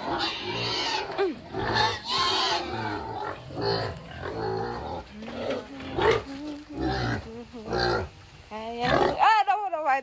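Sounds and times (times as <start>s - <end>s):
pigs grunting and squealing: 0.0s - 8.2s, 8.8s - 9.2s.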